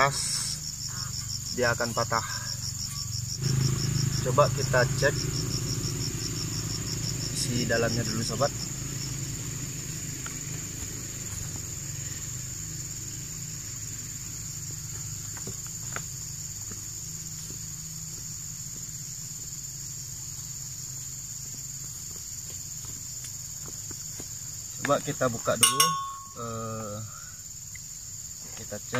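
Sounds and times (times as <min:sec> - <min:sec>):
high-pitched insect drone: 0:00.0 - 0:28.9.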